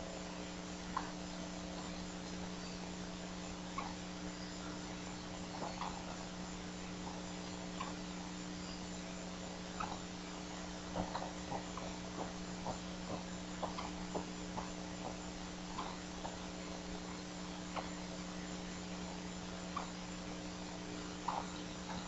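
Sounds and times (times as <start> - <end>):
steady electrical hum: 0.0 - 22.0
eagle chicks chirping: 0.7 - 22.0.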